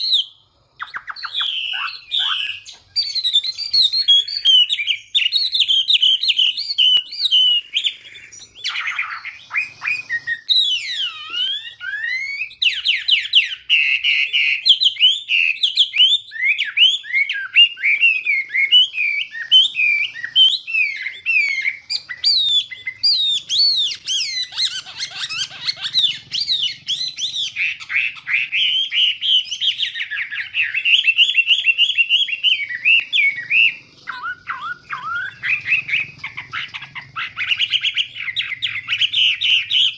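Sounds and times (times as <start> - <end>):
songbird whistles and trills: 0.0 - 39.9.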